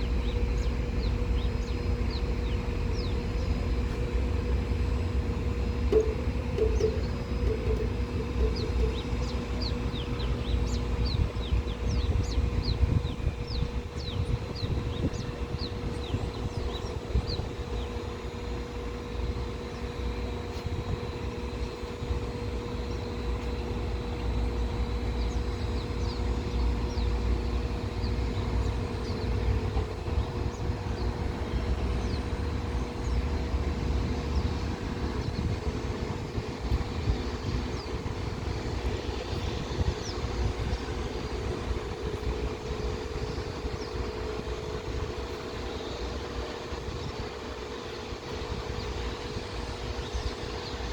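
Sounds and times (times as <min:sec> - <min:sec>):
birds chirping: 0:00.0 - 0:50.9
jet engines rumbling: 0:00.0 - 0:50.9.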